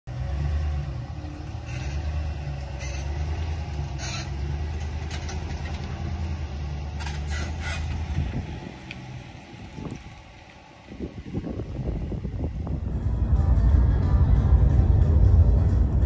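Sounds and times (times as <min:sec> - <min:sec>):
truck engine rumbling: 0:00.1 - 0:16.0.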